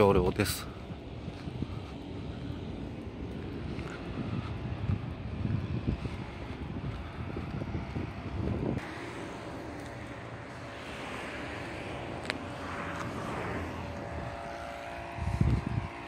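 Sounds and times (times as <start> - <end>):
road traffic noise: 0.0 - 16.0
wind buffeting the microphone: 0.0 - 16.0
vehicle passing: 0.5 - 16.0.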